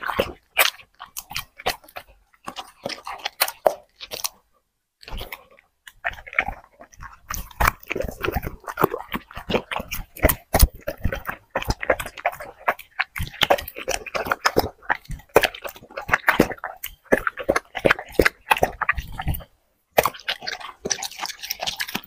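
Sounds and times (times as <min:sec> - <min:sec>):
dog chewing food: 0:00.0 - 0:22.0.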